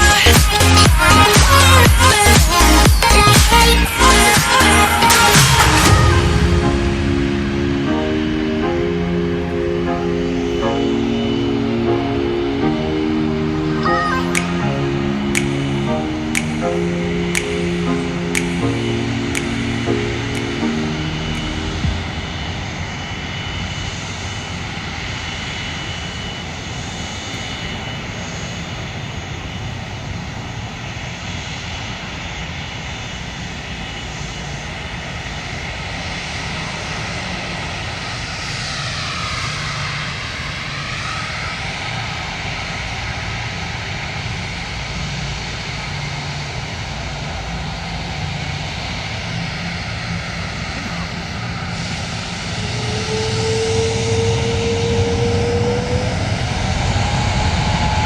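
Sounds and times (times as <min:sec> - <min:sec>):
aircraft engine rushing: 0:00.0 - 0:58.0.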